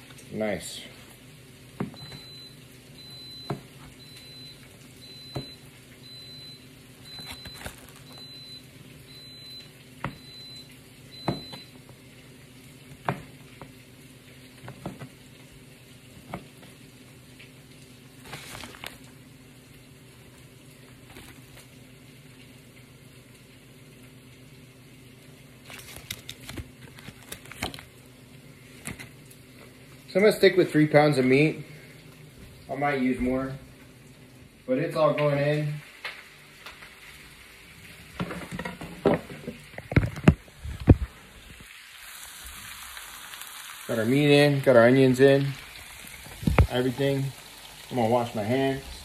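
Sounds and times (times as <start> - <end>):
onions and peppers sizzling: 0.0 - 49.0.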